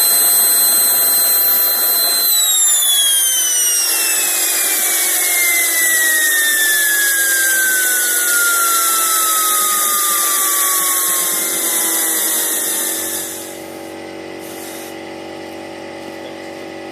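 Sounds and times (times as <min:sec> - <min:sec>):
turbojet engine winding down: 0:00.0 - 0:15.0.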